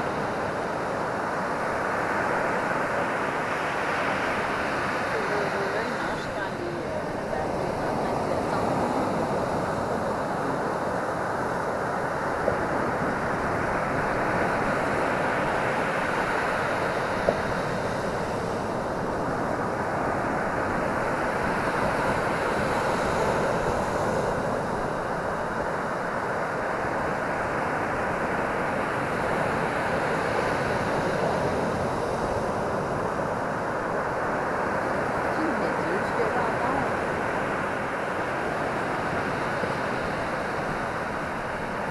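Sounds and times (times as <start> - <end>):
ocean surf breaking on beach: 0.0 - 41.9.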